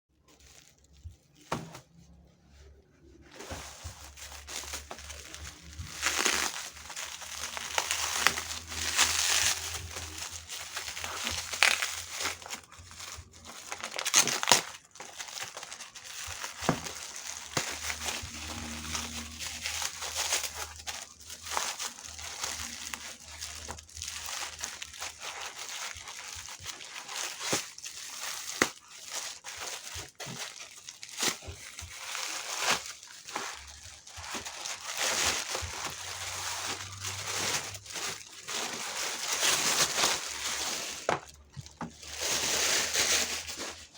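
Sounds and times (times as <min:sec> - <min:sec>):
packaging crinkling and rustling: 0:00.1 - 0:43.9.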